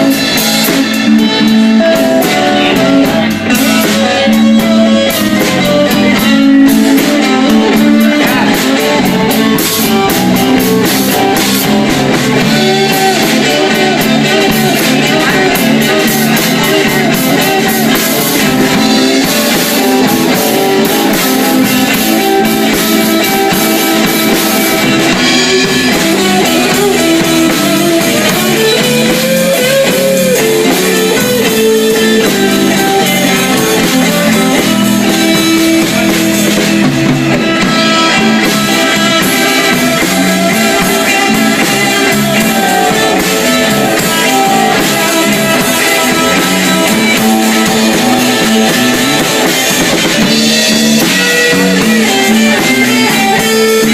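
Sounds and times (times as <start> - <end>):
blues band playing: 0.0 - 53.9
electric guitar solo: 0.0 - 53.9.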